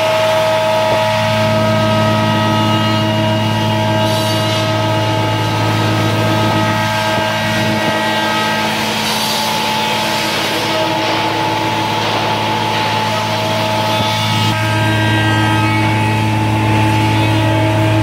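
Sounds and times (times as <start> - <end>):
router machine hum: 0.0 - 18.0.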